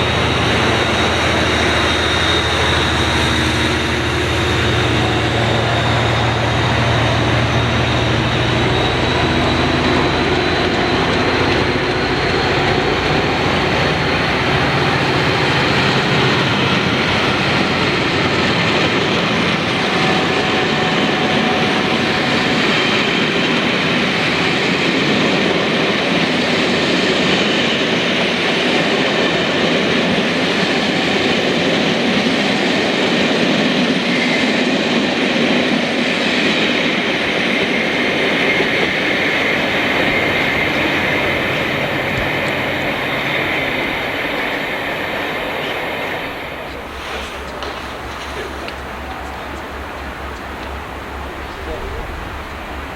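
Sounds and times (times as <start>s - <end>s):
locomotive engine: 0.0s - 52.9s
train coaches rolling on rails: 0.0s - 52.9s.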